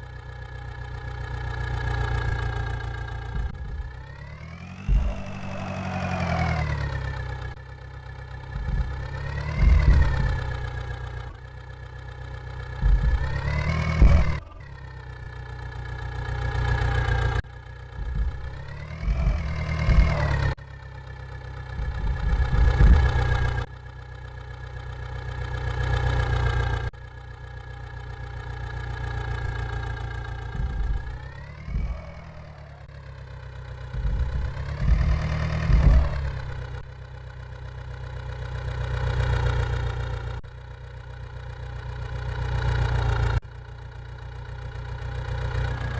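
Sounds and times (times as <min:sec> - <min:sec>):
vehicle engine idling and revving: 0:00.0 - 0:45.9.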